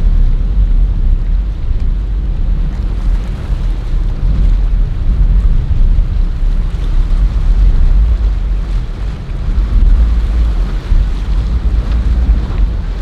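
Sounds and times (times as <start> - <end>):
boat engine rumble: 0.0 - 13.0
rushing boat wake: 0.0 - 13.0
wind buffeting microphone: 0.0 - 13.0.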